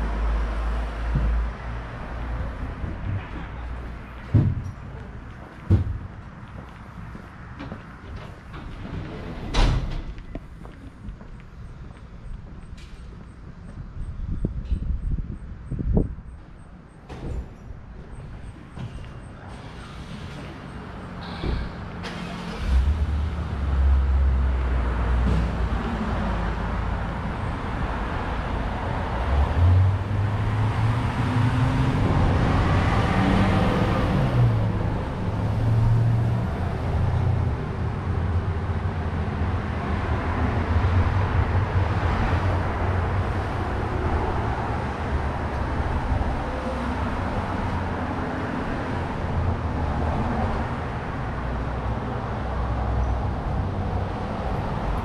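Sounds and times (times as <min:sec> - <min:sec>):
road noise of passing vehicle: 0:00.0 - 0:55.0.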